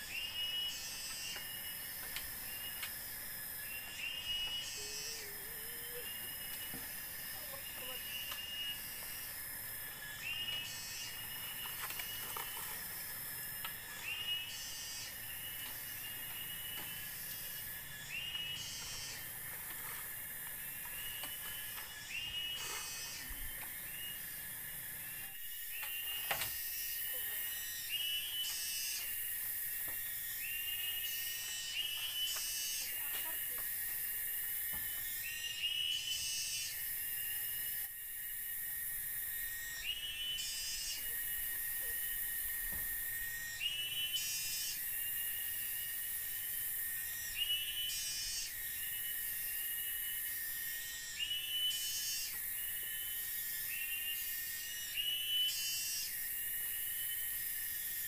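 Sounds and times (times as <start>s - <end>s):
high shrill insect hiss: 0.0s - 58.0s.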